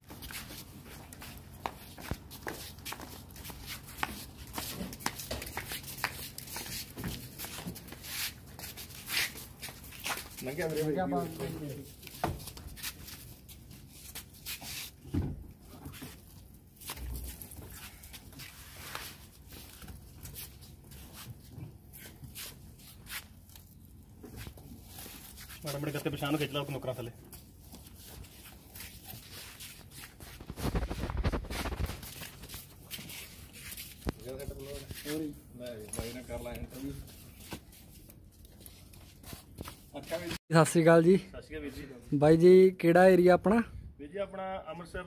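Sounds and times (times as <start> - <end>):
footsteps and shuffling: 0.0 - 40.4
plastic rustling and scraping: 0.1 - 40.4.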